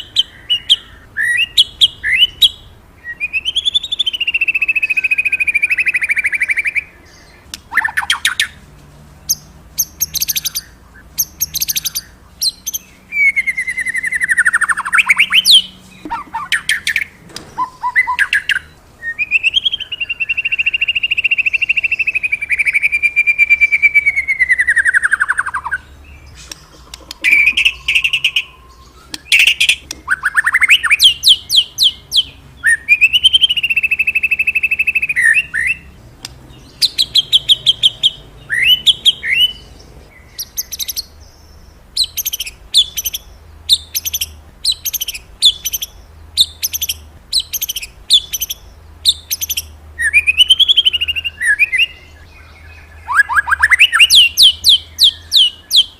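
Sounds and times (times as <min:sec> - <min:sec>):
songbird singing: 0:00.0 - 0:55.9.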